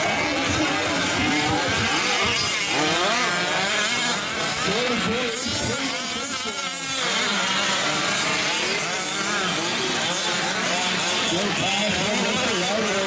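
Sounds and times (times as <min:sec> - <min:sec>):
small engines buzzing and revving: 0:00.0 - 0:13.0.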